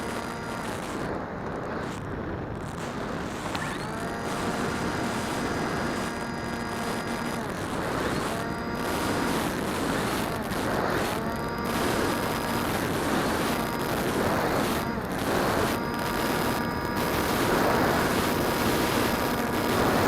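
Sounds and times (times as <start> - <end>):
drone motors whining: 0.0 - 20.0
wind noise: 0.0 - 20.0.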